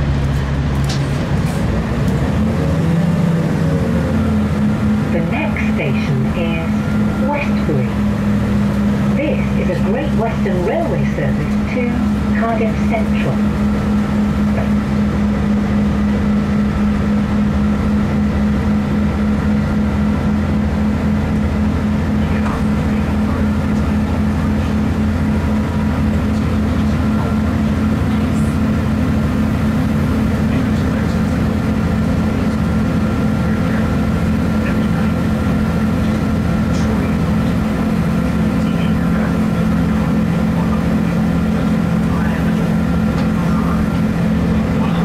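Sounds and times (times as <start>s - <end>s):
diesel engine drone: 0.0s - 45.0s
low hum: 0.0s - 45.0s
train wheels on track: 0.0s - 45.0s.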